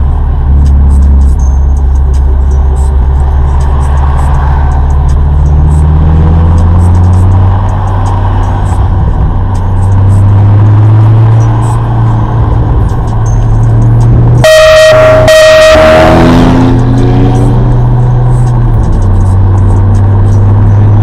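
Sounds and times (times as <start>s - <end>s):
car engine droning: 0.0s - 21.0s
tyre and road noise: 0.0s - 21.0s.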